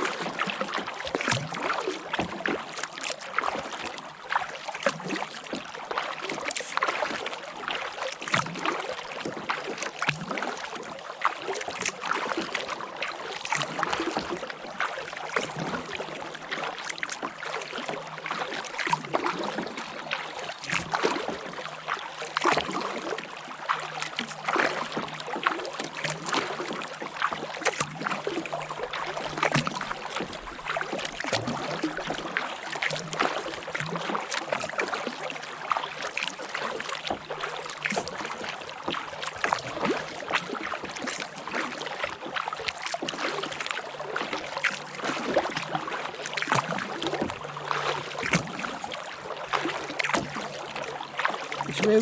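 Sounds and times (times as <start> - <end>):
paddle splashing in water: 0.0 - 52.0
water washing along hull: 0.0 - 52.0.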